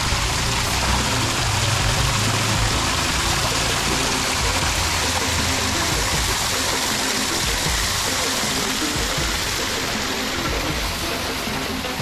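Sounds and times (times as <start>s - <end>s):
music playing: 0.0s - 12.0s
running water rushing: 0.0s - 12.0s.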